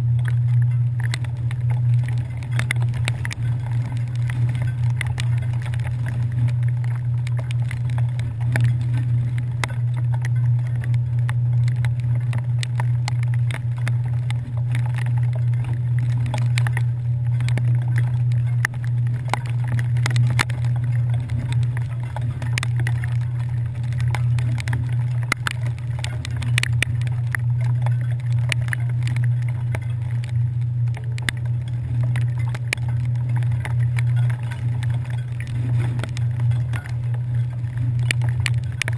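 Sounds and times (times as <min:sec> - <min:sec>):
small ticks: 0:00.0 - 0:38.9.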